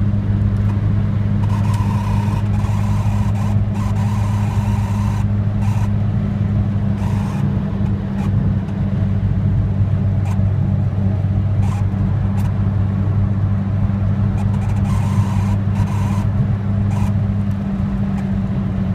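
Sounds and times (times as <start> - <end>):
car engine droning: 0.0 - 18.9
road noise: 0.0 - 18.9.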